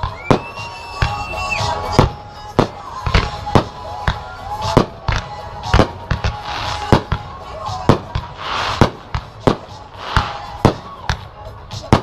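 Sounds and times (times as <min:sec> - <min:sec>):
fireworks bangs: 0:00.0 - 0:12.0
music: 0:00.0 - 0:12.0.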